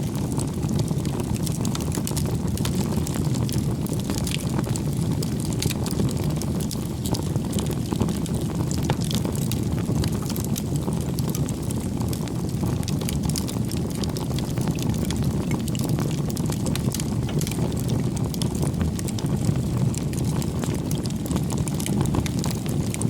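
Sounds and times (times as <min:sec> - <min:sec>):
low rumble of flames: 0:00.0 - 0:23.0
wood crackling and popping: 0:00.0 - 0:23.0.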